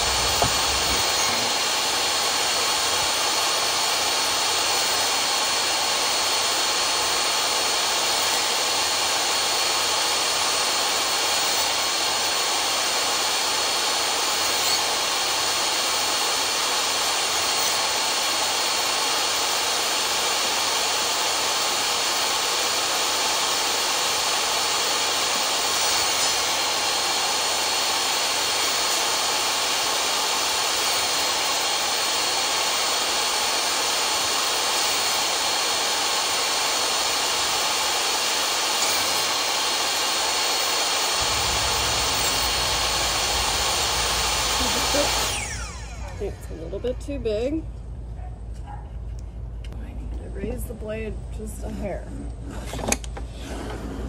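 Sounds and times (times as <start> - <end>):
wood being cut by saw: 0.0 - 47.1
table saw whining: 0.0 - 47.4.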